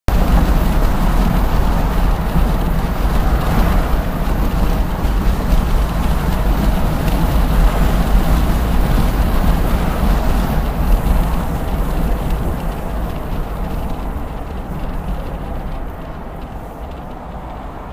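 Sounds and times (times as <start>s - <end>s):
car road and wind noise: 0.1s - 17.9s.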